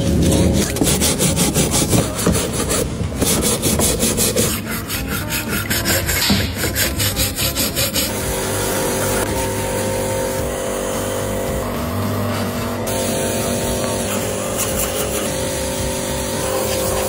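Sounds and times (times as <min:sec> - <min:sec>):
scrubbing strokes on metal: 0:00.0 - 0:17.0.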